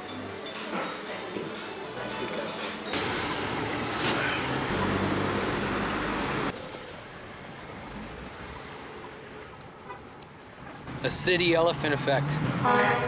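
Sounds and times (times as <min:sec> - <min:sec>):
steady street noise: 0:00.0 - 0:13.0.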